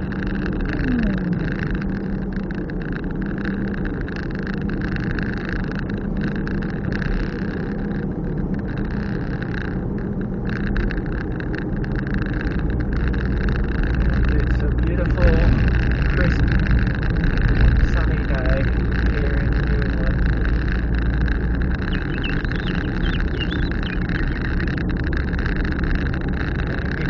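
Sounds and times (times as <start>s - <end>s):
car engine hum: 0.0s - 27.0s
tyre and road noise: 0.0s - 27.0s.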